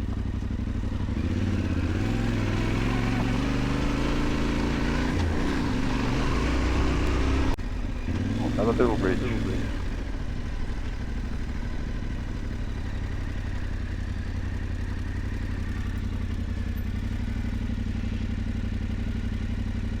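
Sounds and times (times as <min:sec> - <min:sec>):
motorcycle engine running steadily: 0:00.0 - 0:20.0.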